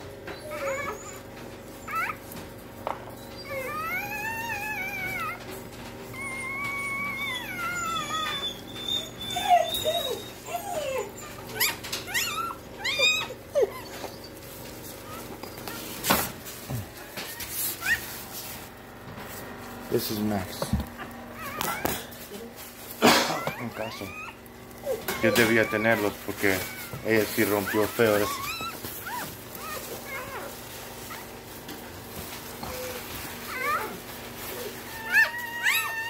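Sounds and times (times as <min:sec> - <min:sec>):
husky whining: 0:00.0 - 0:18.5, 0:20.0 - 0:36.0.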